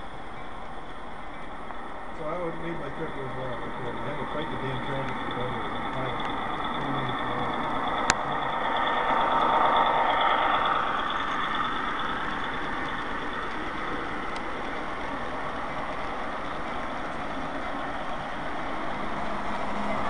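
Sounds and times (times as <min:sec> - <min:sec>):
model train rolling past: 0:00.0 - 0:20.0.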